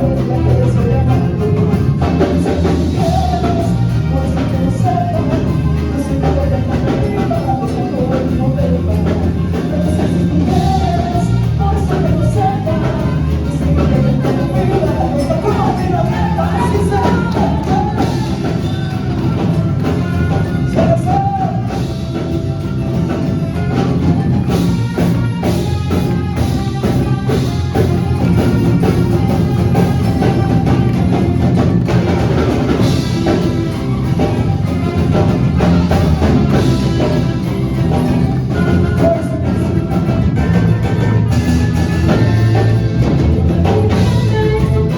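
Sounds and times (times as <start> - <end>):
drums: 0.0 - 44.9
sustained instruments: 0.0 - 44.9.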